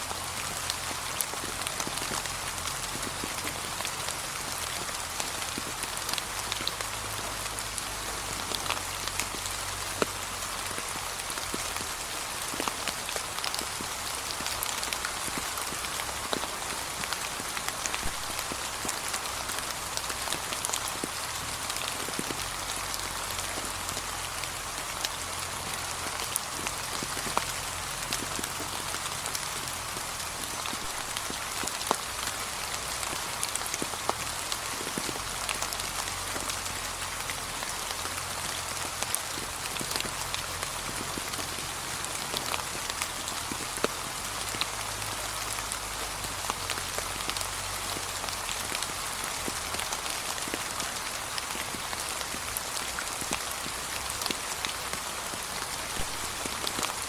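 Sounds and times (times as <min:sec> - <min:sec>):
light rain: 0:00.0 - 0:57.0
raindrops ticking on leaves: 0:00.0 - 0:57.0.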